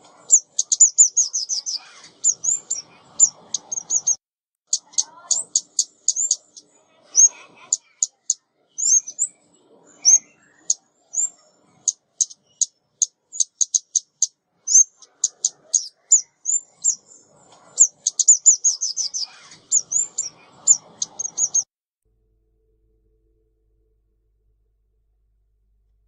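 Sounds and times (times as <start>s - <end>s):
songbird high chip calls: 0.0s - 21.7s.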